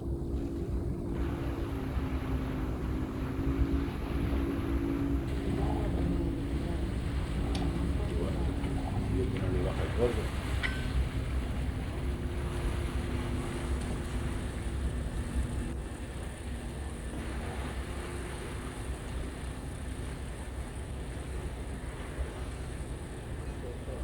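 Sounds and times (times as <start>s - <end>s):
boat machinery rumble: 0.0s - 24.0s
faint steady hum: 0.0s - 24.0s
wind buffeting microphone: 0.0s - 24.0s.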